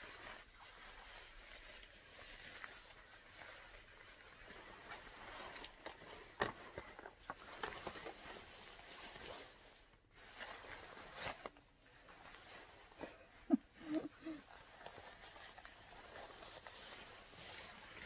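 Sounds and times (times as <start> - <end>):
fabric rustling: 0.0 - 18.0.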